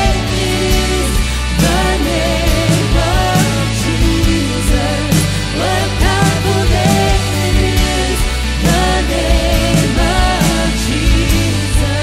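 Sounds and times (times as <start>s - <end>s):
woman singing into a microphone: 0.0s - 12.0s
worship band playing: 0.0s - 12.0s
drum hits: 1.6s - 11.4s.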